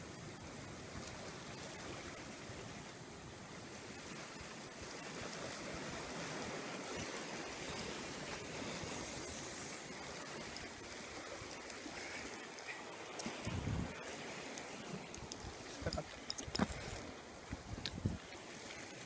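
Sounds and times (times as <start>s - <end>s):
sea waves washing: 0.0s - 19.0s
wind: 0.0s - 19.0s.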